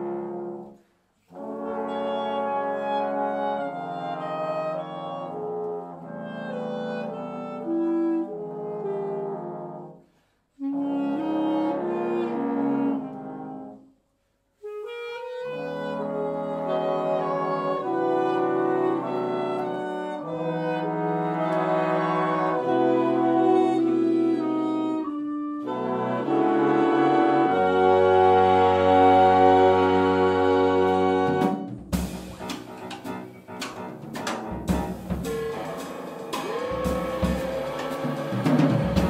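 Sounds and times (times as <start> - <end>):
jazz big band playing held chords: 0.0 - 10.0, 10.6 - 13.8, 14.8 - 39.0.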